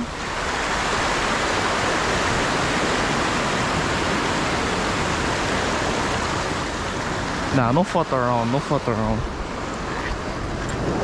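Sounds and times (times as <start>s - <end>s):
sea water washing over rocks: 0.0s - 11.0s.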